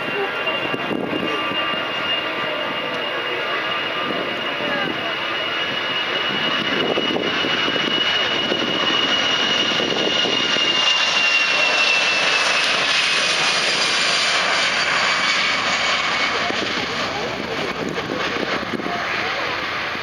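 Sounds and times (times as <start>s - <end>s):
jet engines roaring with fan whine: 0.0s - 20.0s.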